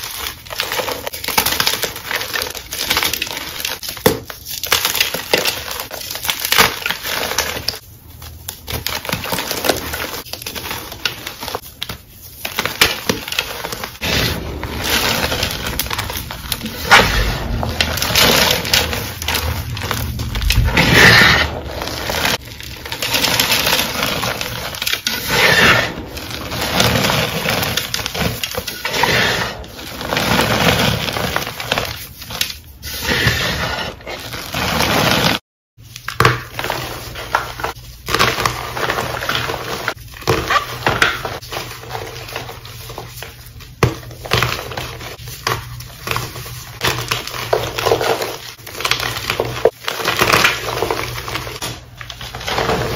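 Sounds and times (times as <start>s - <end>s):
hands crumbling chalk: 0.0s - 52.9s.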